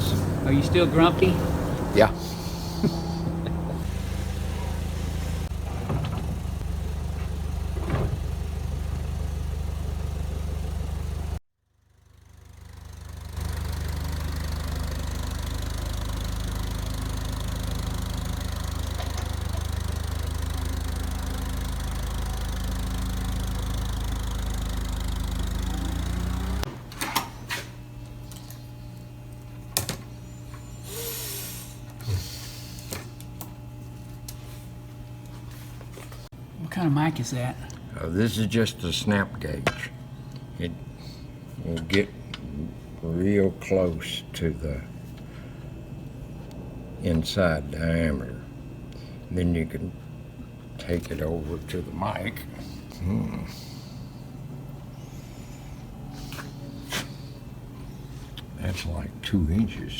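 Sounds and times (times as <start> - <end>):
low mechanical hum: 0.0 - 11.4, 12.1 - 59.9.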